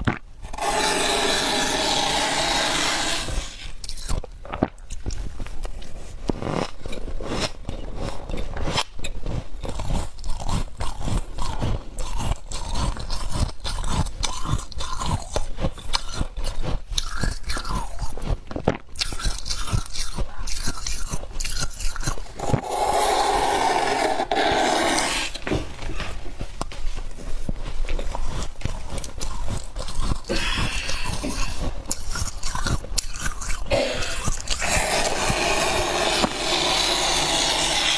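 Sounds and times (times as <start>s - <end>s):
frost crunched and chewed: 3.1s - 22.6s, 25.3s - 37.9s.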